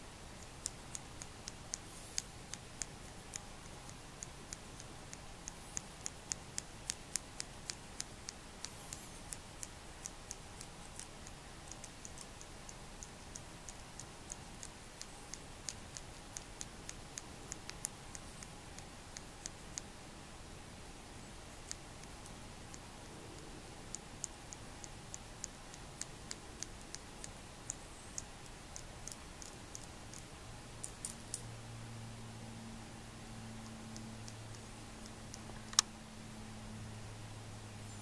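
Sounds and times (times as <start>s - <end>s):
faint steady hum: 0.0s - 38.0s
sharp high-pitched clicks: 0.4s - 20.0s, 21.2s - 31.5s, 33.6s - 35.9s.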